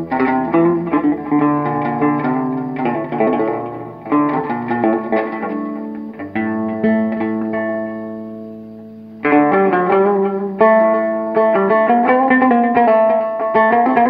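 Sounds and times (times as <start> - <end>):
plucked guitar chords: 0.0 - 14.0.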